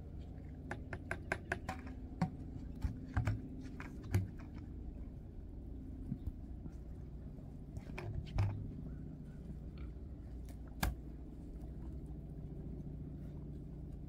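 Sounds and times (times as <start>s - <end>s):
low rumble: 1.8s - 14.0s.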